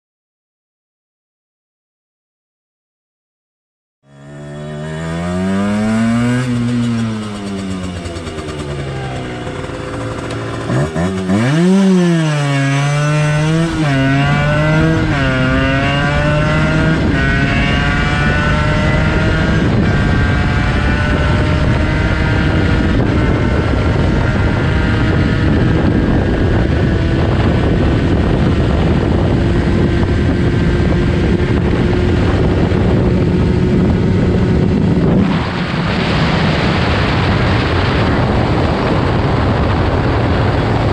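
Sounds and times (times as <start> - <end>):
two-stroke engine revving: 4.0 - 38.9.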